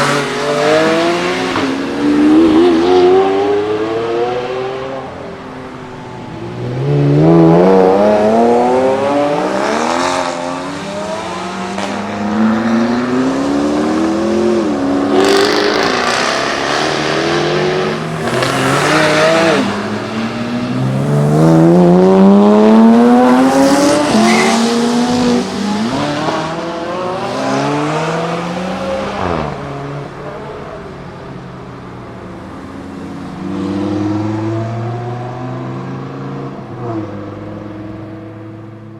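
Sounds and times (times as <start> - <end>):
supercar engines accelerating hard: 0.0 - 38.9.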